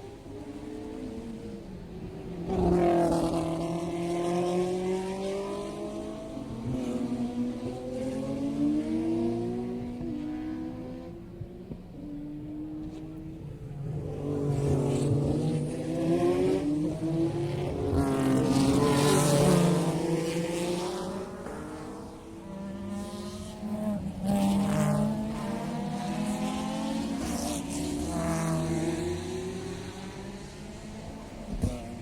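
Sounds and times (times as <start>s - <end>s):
racing engines revving and passing: 0.0s - 32.0s.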